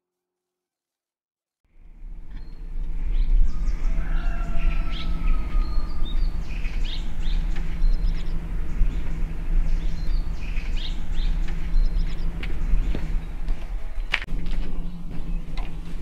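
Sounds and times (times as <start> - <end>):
low rumble and hum: 1.7 - 16.0
birds chirping: 1.8 - 16.0.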